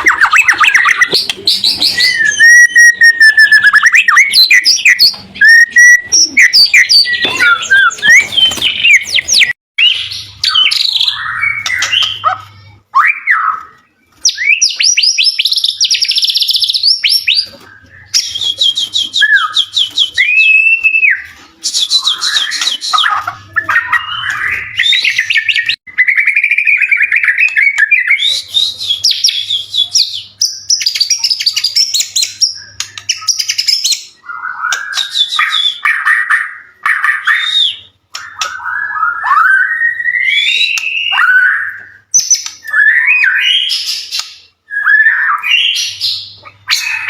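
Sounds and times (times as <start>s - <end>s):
songbird singing trills and whistles: 0.0s - 47.0s.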